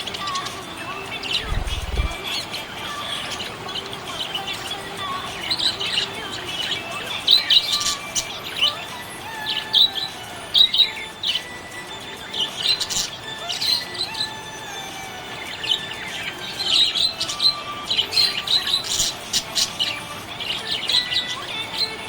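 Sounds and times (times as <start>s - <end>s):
budgerigar chirping: 0.0s - 22.0s.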